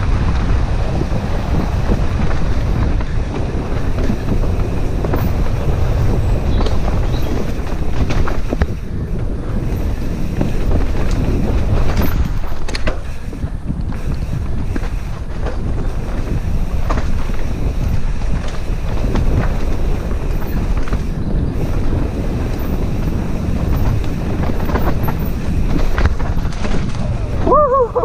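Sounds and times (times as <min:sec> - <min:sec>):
bike rattling on dirt trail: 0:00.0 - 0:28.0
wind buffeting microphone: 0:00.0 - 0:28.0.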